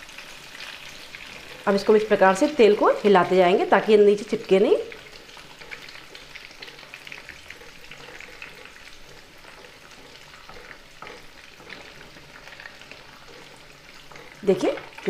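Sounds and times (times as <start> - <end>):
food deep-frying in hot oil: 0.0 - 15.0
wooden spatula stirring oil: 0.1 - 15.0.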